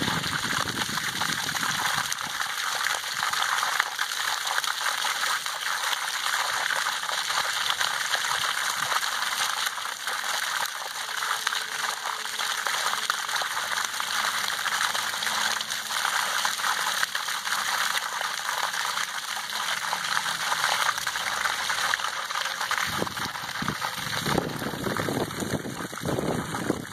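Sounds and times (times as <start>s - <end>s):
water splashing from a pipe: 0.0s - 26.9s.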